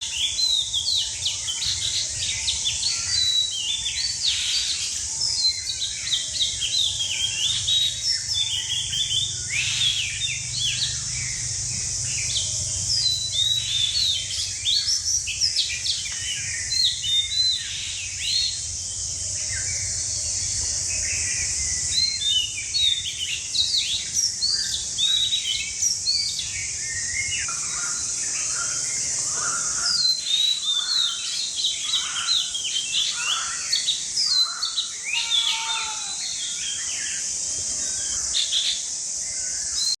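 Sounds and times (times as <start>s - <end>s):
small birds chirping: 0.0s - 40.0s
steady high-pitched hiss: 0.0s - 40.0s.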